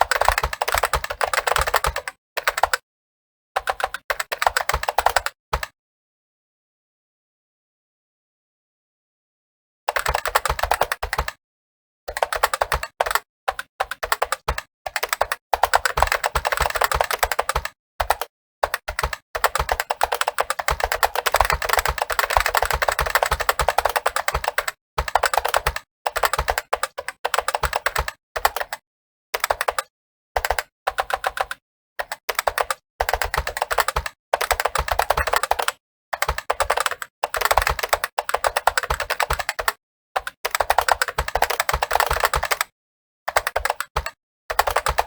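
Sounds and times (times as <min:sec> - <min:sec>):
fast keyboard typing: 0:00.0 - 0:02.8, 0:03.6 - 0:05.7, 0:09.9 - 0:11.4, 0:12.1 - 0:28.8, 0:29.4 - 0:45.0.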